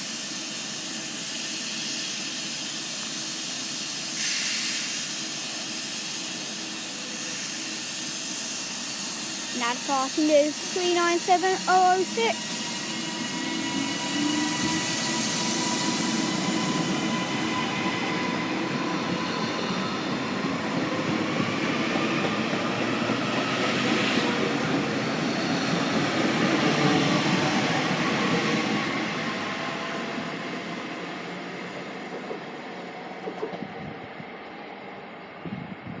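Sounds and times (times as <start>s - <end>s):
train wheel and running noise: 0.0s - 36.0s.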